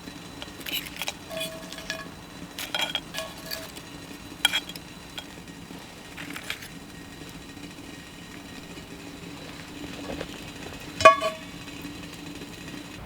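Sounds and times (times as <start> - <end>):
metal utensils clinking on cookware: 0.0 - 12.8.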